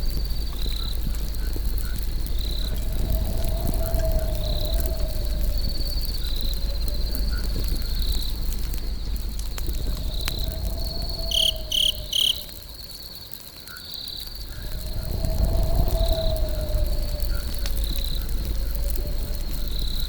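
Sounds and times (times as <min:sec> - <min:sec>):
low rumble: 0:00.0 - 0:12.8, 0:14.2 - 0:20.0
campfire crackling and popping: 0:00.0 - 0:20.0
crickets trilling: 0:00.0 - 0:20.0.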